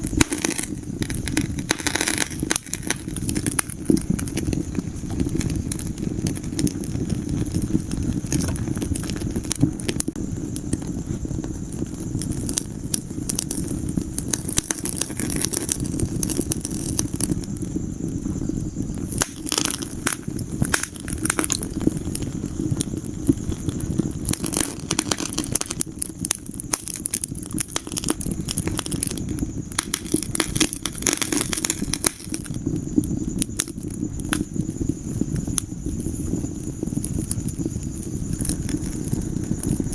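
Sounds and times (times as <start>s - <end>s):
burning logs crackling and popping: 0.0s - 39.9s
fire flames rumbling: 0.0s - 39.9s.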